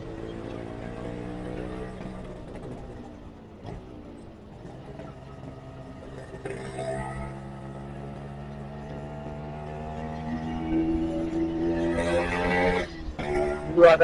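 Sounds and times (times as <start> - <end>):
motorcycle engine: 0.0 - 14.0
road noise: 0.0 - 14.0.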